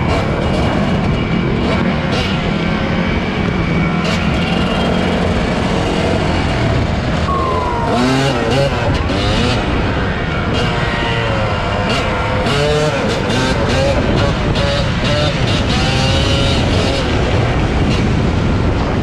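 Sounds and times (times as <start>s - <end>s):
rush of wind noise: 0.0s - 19.0s.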